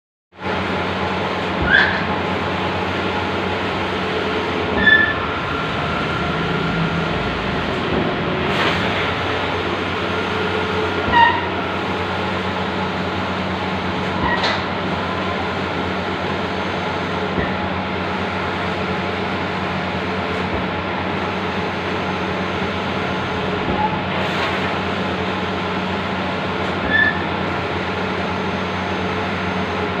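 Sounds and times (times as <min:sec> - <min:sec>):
printing machine hum and hiss: 0:00.4 - 0:30.0.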